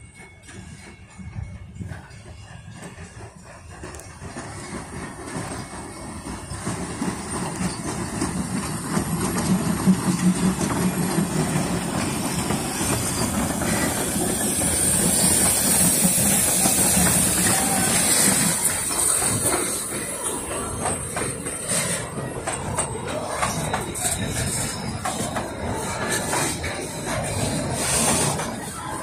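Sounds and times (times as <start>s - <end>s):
steam train rolling on rails: 0.0s - 29.0s
steam hiss: 3.4s - 29.0s.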